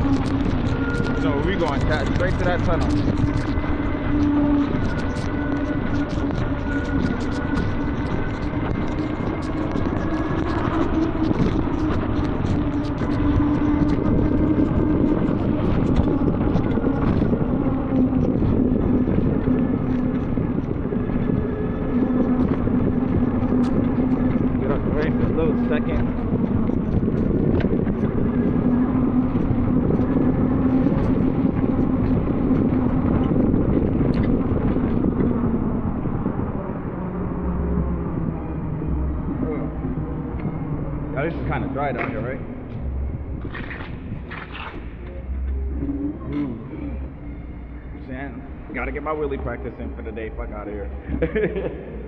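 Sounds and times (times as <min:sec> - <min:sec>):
electric hub motor hum: 0:00.0 - 0:52.0
wind and tyre noise: 0:00.0 - 0:52.0.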